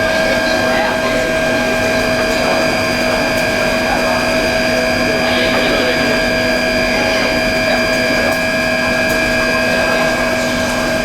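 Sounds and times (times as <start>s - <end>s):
machinery running with whine: 0.0s - 11.0s.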